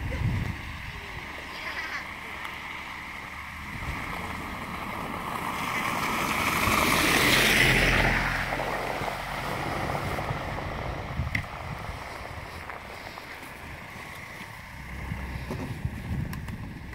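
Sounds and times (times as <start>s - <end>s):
wind on microphone: 0.0s - 1.5s, 3.4s - 16.9s
low engine hum: 0.0s - 16.9s
tyres hissing through slush: 1.1s - 10.6s, 11.6s - 15.8s.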